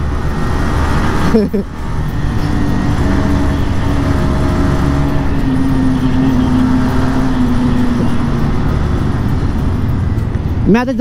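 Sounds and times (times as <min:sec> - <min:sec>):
motorcycle engine drone: 0:00.0 - 0:11.0
wind and road noise rumble: 0:00.0 - 0:11.0.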